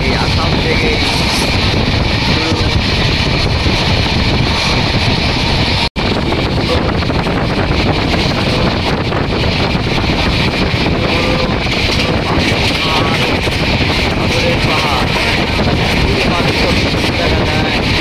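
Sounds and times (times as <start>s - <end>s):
train wheel and track noise: 0.0s - 18.0s
wind buffeting microphone: 0.0s - 18.0s.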